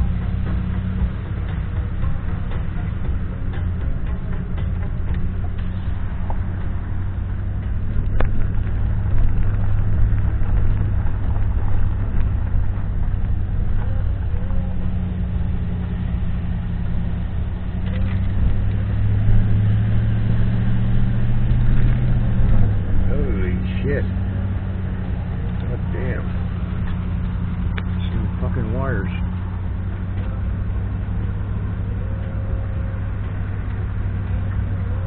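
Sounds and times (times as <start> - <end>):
car engine hum: 0.0 - 35.0
tyre noise on wet road: 0.0 - 35.0.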